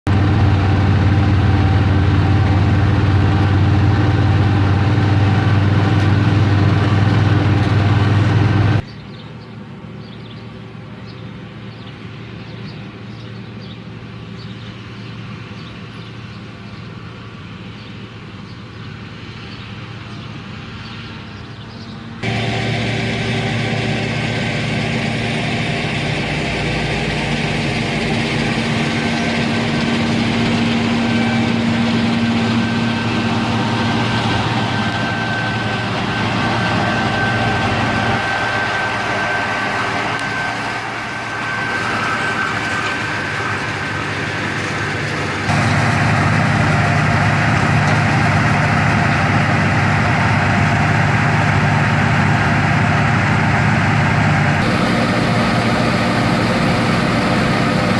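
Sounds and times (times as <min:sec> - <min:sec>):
farm machinery engines humming: 0:00.0 - 0:57.9.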